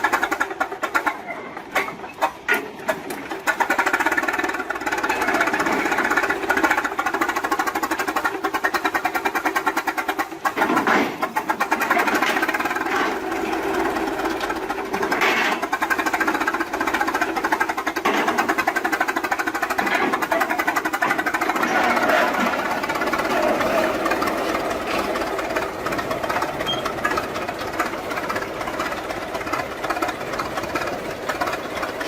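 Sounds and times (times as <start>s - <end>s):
old machinery clattering: 0.0s - 32.0s.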